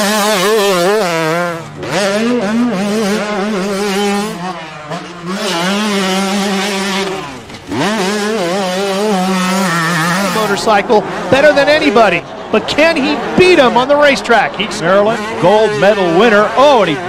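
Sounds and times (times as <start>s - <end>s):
two-stroke motorbike revving: 0.0s - 17.0s.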